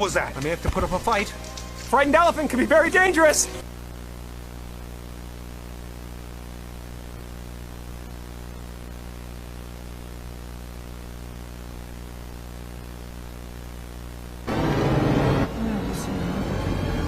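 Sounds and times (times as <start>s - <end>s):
electrical hum: 0.0s - 17.0s
static hiss: 0.0s - 17.0s.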